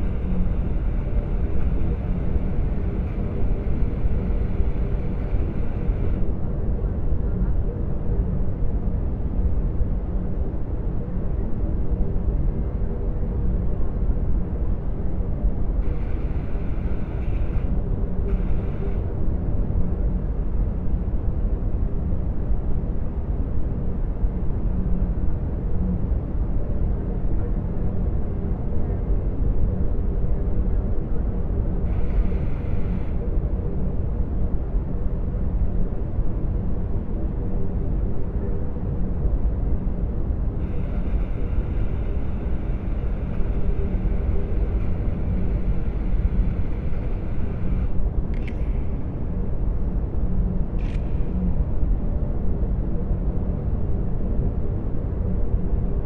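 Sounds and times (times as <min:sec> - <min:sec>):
deep engine rumble and hum: 0:00.0 - 0:56.0.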